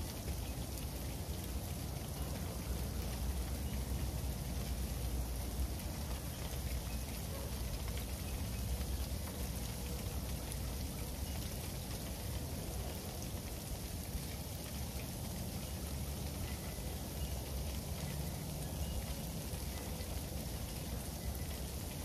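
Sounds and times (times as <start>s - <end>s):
freezing rain ticking on hard surfaces: 0.0s - 22.0s
rain hiss: 0.0s - 22.0s.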